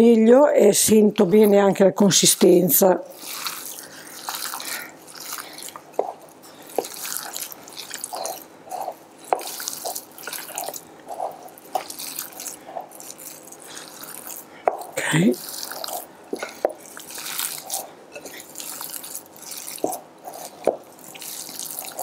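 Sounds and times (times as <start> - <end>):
hands kneading wet meat mixture: 2.2 - 22.0.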